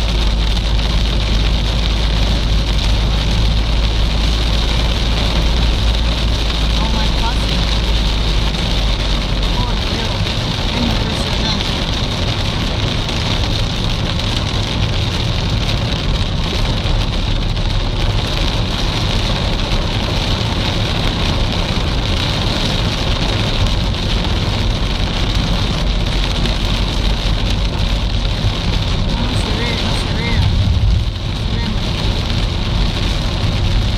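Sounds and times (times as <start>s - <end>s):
car driving on wet road: 0.0s - 33.9s
heavy rain on car windshield: 0.0s - 33.9s.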